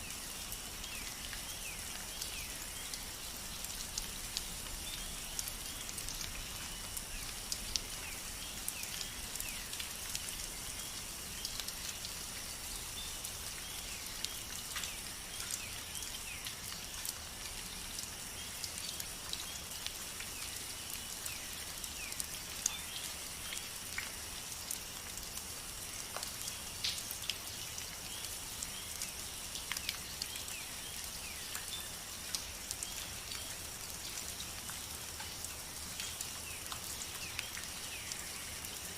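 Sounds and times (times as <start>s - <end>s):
raindrops ticking on a surface: 0.0s - 38.9s
steady rainfall: 0.0s - 38.9s.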